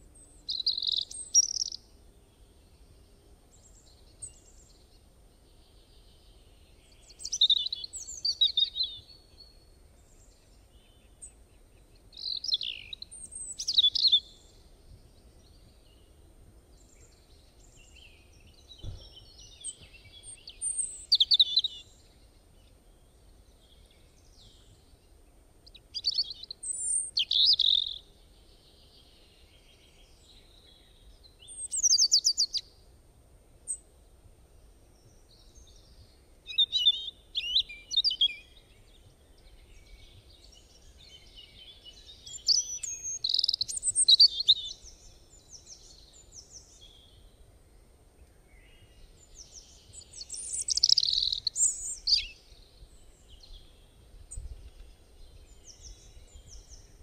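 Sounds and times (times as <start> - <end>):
small birds chirping and trilling: 0.0 - 32.8, 34.6 - 57.0.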